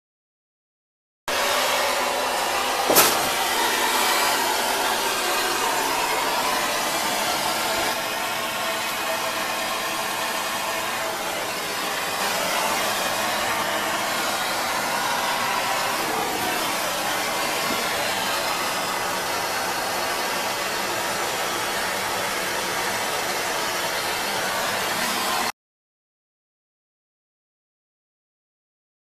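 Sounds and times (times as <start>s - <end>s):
gas torch hissing: 1.3s - 25.5s.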